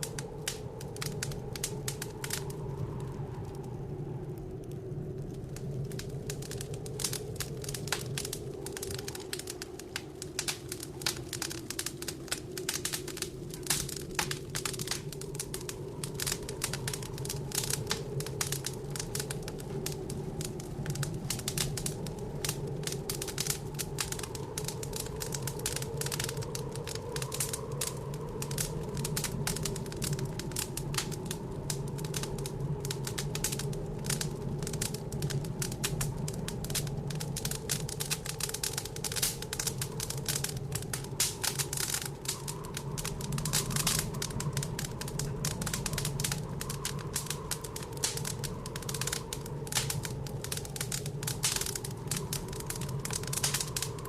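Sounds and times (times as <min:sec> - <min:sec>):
blizzard wind howling: 0:00.0 - 0:54.0
wood fire crackling: 0:00.0 - 0:54.0.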